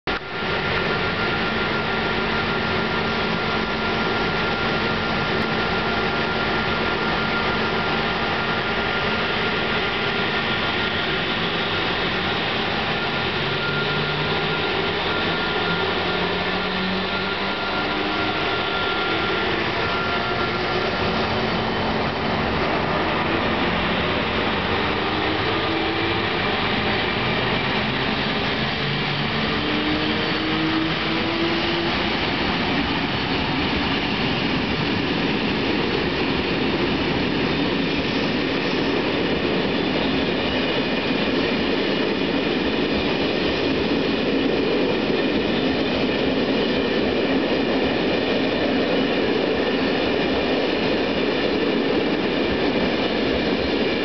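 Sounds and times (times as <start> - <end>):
electric locomotive whine: 0.1 - 54.0
train wheels on rails: 0.1 - 54.0.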